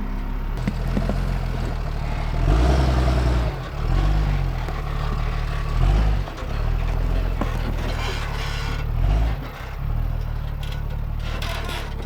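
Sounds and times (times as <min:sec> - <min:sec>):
diesel engine surging: 0:00.0 - 0:12.0.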